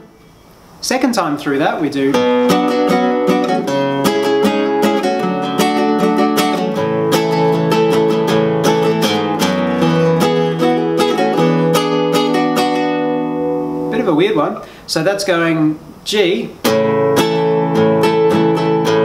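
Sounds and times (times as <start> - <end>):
classical guitar strumming: 1.6 - 19.0.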